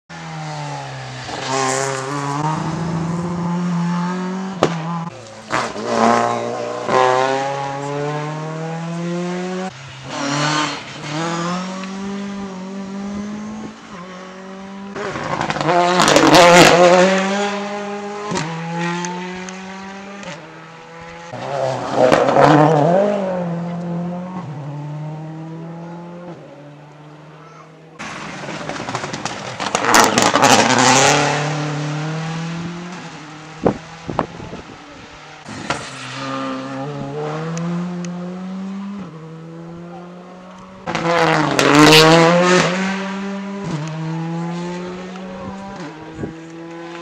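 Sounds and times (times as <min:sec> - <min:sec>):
rally car engine revving: 0:00.1 - 0:47.0.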